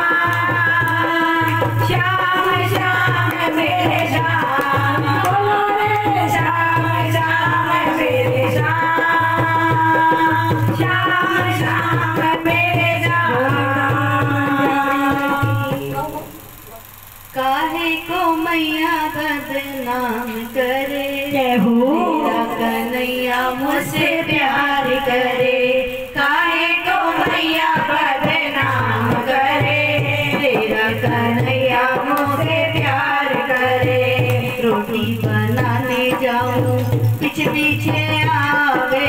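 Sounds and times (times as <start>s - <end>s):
women singing devotional song: 0.0s - 16.0s, 17.0s - 39.0s.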